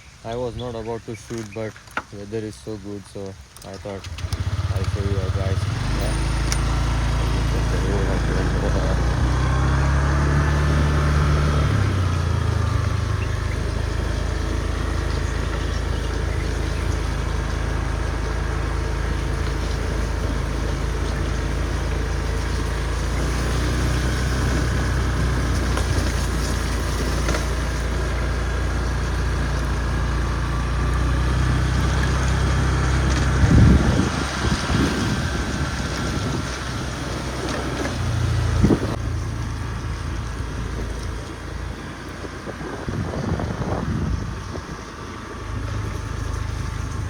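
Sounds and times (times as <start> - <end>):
motor scooter engine running: 3.8 - 47.0.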